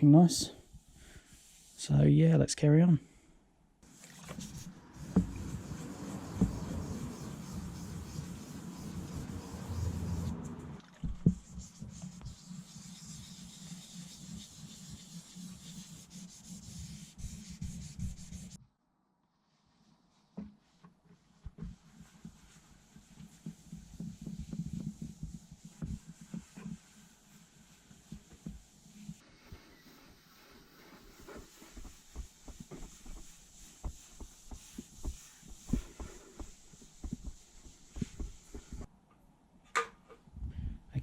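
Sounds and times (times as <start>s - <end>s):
rubbing polish on painted panel: 0.6s - 1.8s, 3.8s - 18.6s, 19.5s - 38.9s.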